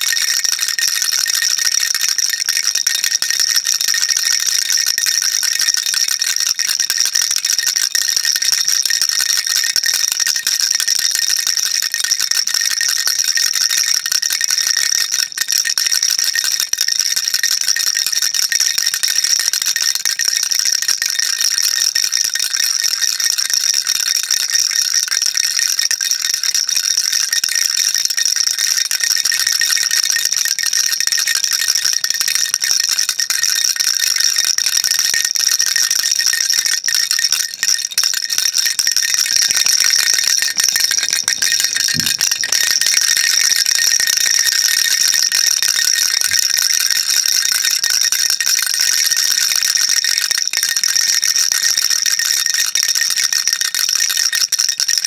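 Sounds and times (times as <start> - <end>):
baby rattle shaking: 0.0 - 19.1, 25.7 - 51.0.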